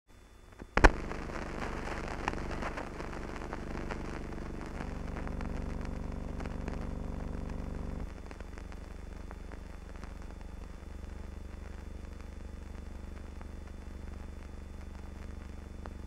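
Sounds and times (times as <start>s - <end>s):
faint thin whine: 0.1s - 16.0s
low hum: 0.1s - 16.0s
film crackles and pops: 0.4s - 16.0s.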